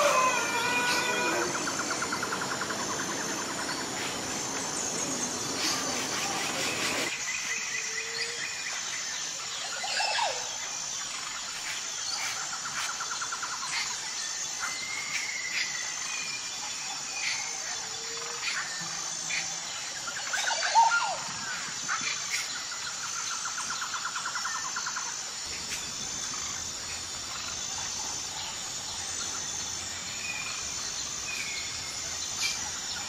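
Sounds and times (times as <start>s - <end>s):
background hiss: 0.0s - 33.0s
insect buzz: 0.0s - 33.0s.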